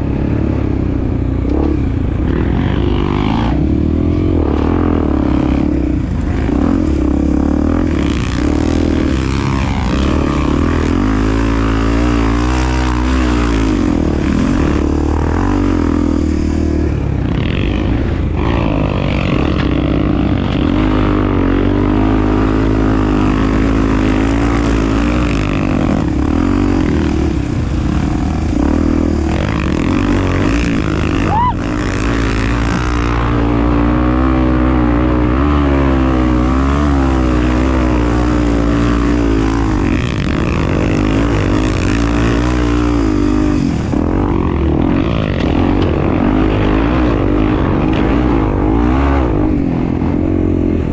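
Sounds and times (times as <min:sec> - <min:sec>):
motorcycle engine revving under load: 0:00.0 - 0:50.9.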